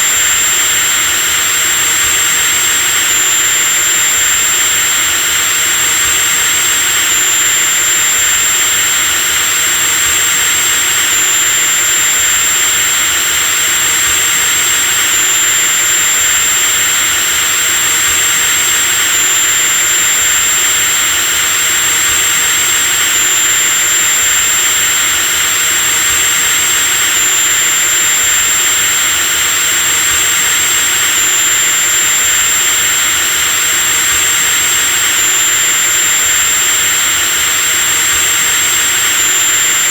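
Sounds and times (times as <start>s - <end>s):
electric drill motor whine: 0.0s - 39.9s.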